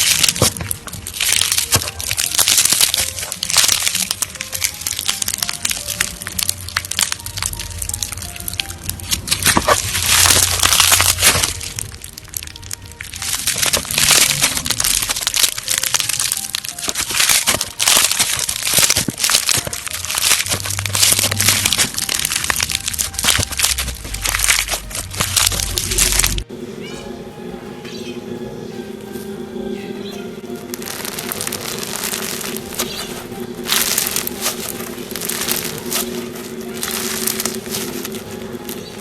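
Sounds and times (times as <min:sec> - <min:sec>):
slime crackling and popping: 0:00.0 - 0:26.5, 0:30.6 - 0:39.0.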